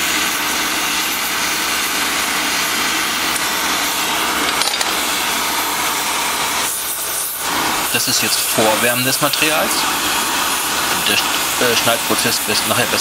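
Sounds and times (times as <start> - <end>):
cutting torch flame hissing: 0.0 - 13.0.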